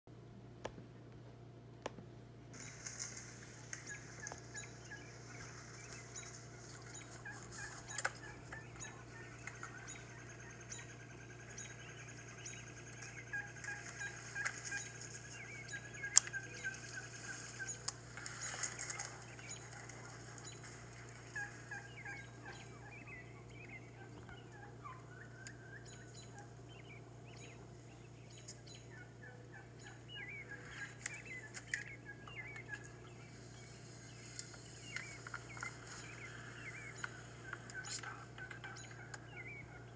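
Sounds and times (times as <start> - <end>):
steady low hum: 0.1 - 39.9
wild turkeys calling: 2.6 - 39.9.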